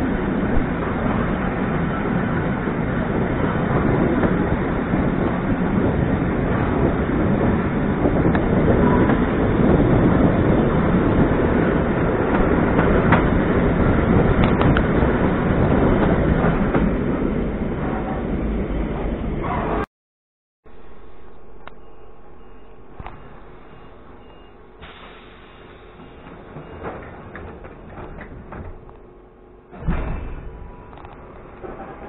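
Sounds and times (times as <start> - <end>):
train wheels rumbling on rails: 0.0 - 19.6, 20.8 - 32.0.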